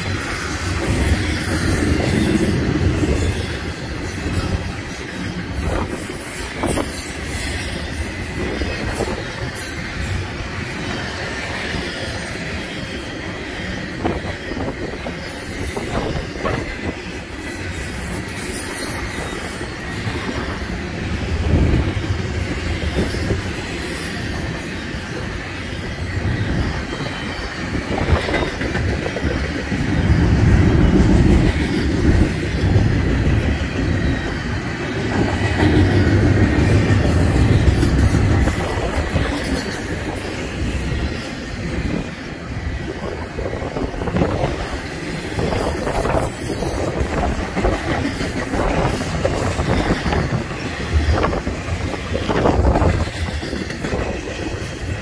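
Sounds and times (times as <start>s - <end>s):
train cars rumbling on rails: 0.0s - 55.0s.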